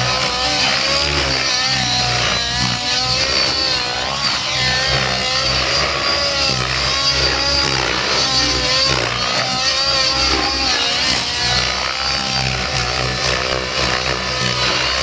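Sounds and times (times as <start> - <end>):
model helicopter engine revving: 0.0 - 15.0.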